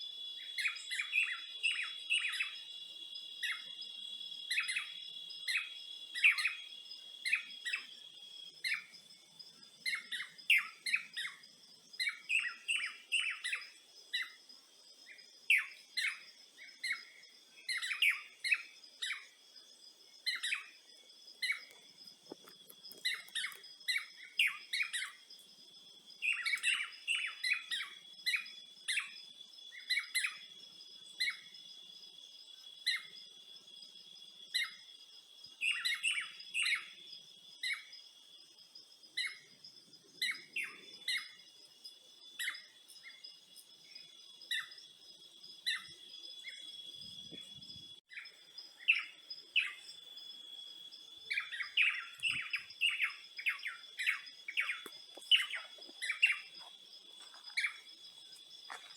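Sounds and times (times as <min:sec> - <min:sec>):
wild birds chirping: 0:00.0 - 0:58.9.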